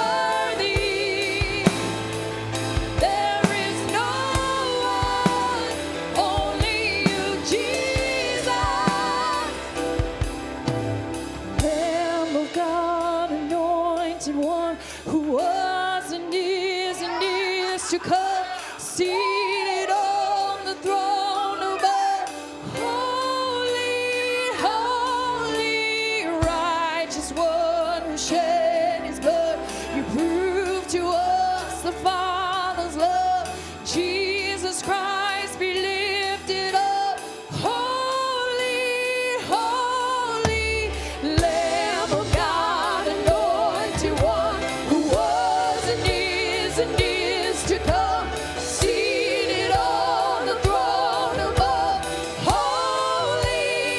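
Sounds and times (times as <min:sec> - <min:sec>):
band accompaniment: 0:00.0 - 0:53.9
gospel voices singing: 0:00.0 - 0:53.9.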